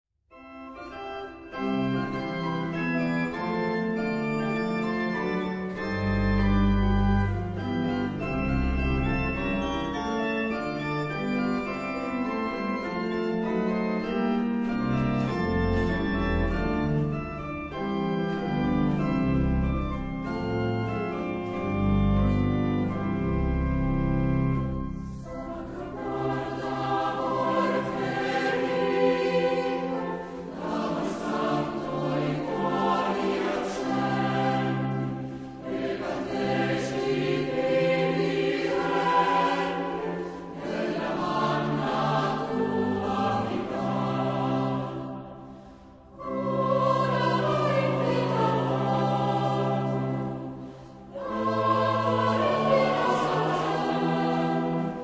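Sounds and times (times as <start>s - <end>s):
organ playing held chords: 0.3s - 55.0s
choir singing: 0.7s - 23.2s, 24.6s - 55.0s.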